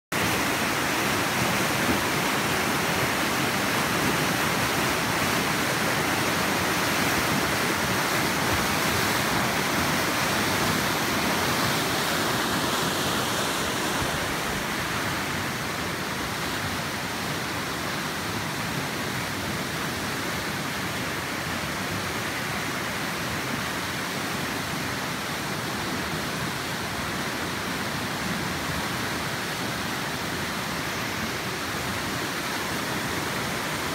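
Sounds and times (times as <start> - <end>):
floodwater rushing over rocks: 0.1 - 33.9.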